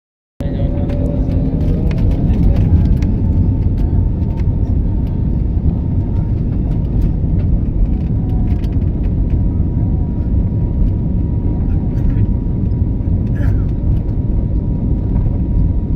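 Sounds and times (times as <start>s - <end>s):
airplane cabin rumble: 0.4s - 15.9s.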